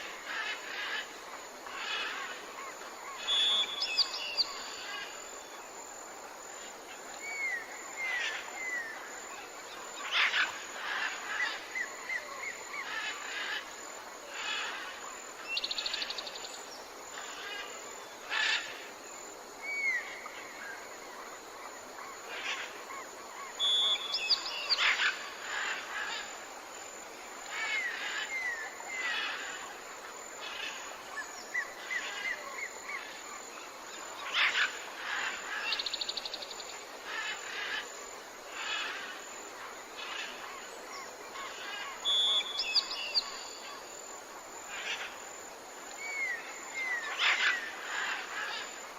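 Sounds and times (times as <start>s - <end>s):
steady outdoor hiss: 0.0s - 48.9s.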